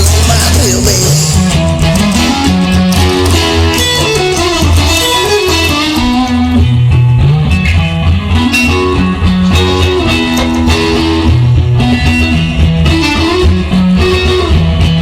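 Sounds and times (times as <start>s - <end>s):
bass line: 0.0s - 15.0s
electric guitar: 0.0s - 15.0s.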